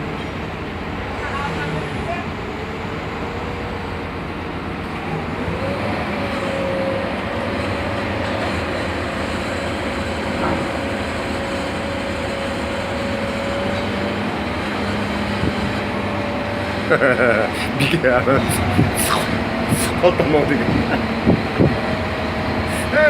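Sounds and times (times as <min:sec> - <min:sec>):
heavy machinery running: 0:00.0 - 0:23.0.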